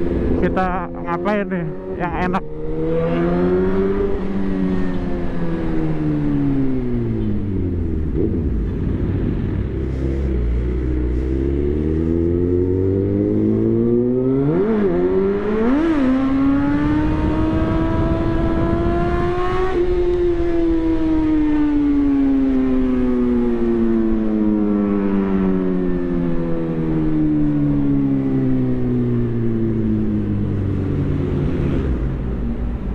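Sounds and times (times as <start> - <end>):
motorcycle engine revving: 0.0 - 23.6, 24.4 - 32.9.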